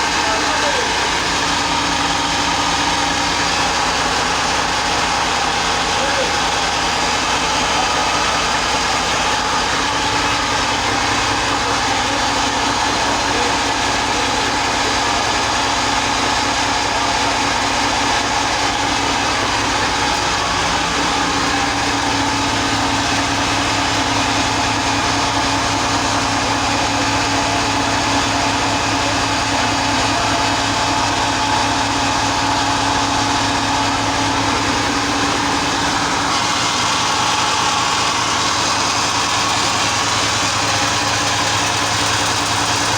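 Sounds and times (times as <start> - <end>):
ship engine droning: 0.0 - 42.9.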